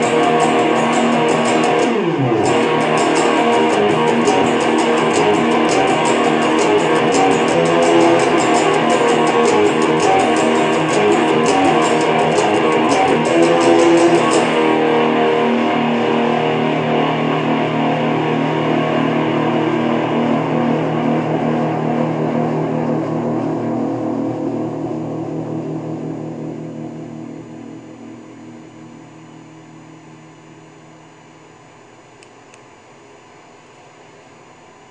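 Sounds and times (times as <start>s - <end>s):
guitar strumming: 0.0s - 29.3s
guitar chord ringing: 0.0s - 31.0s.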